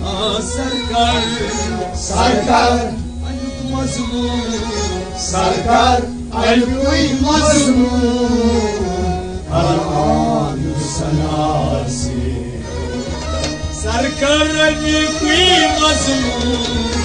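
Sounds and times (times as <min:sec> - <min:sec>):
man singing: 0:00.0 - 0:13.2, 0:13.8 - 0:17.0
harmonium: 0:00.0 - 0:17.0
steady low beat: 0:00.0 - 0:17.0.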